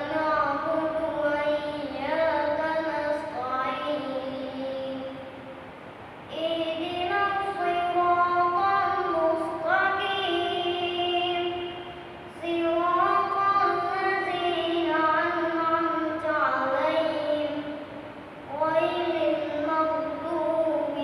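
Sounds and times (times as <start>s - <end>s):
boy chanting recitation: 0.0s - 5.6s, 6.3s - 21.0s.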